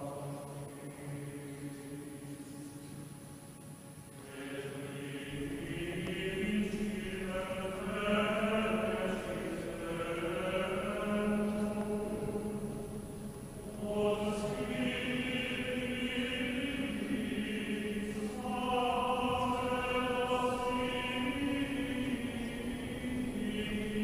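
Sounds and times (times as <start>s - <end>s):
choral chant: 0.0s - 3.2s, 4.1s - 24.0s.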